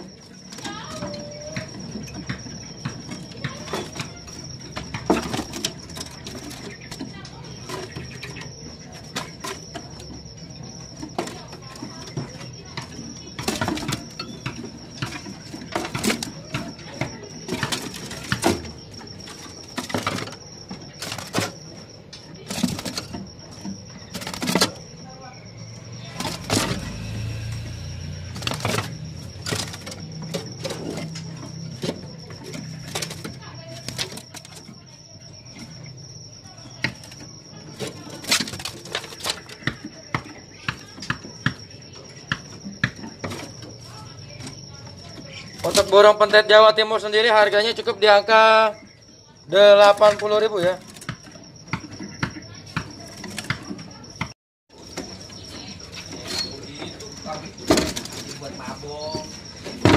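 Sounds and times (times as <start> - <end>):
birds tapping on wire cages: 0.0 - 59.9.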